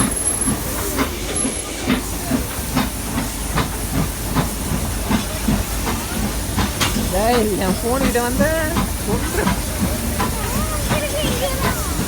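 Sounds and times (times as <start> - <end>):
toy train running rumble: 0.0 - 12.0.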